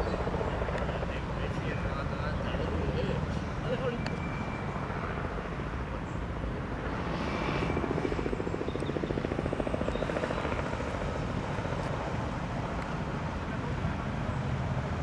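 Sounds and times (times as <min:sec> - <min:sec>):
helicopter rotor chopping: 0:00.0 - 0:14.9.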